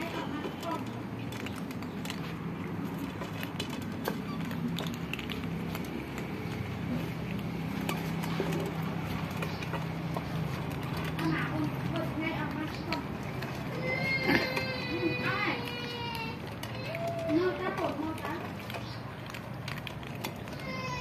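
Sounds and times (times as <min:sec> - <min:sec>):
cats crunching dry kibble: 0:00.0 - 0:21.0.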